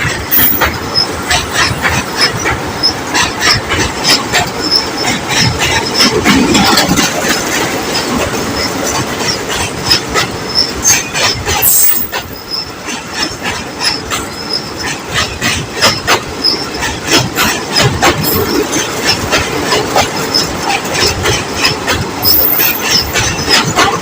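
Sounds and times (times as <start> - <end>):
train rumble: 0.0 - 24.0
train wheels clattering: 0.0 - 24.0.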